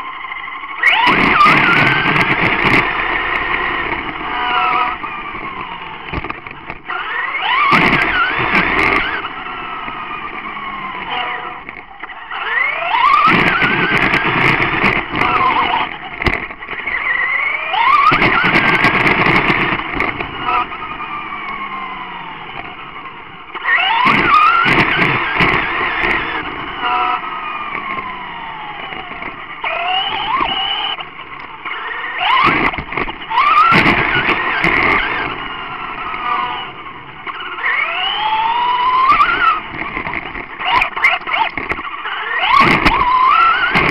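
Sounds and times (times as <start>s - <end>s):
electric motor whining: 0.0s - 43.9s
tyre noise on asphalt: 0.0s - 43.9s.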